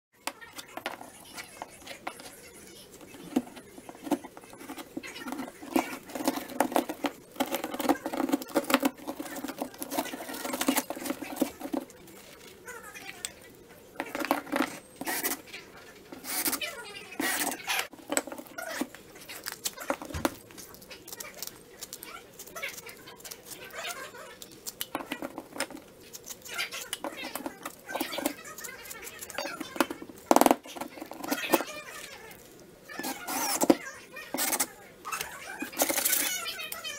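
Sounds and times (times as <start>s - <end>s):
hands handling repair materials: 0.2s - 36.8s.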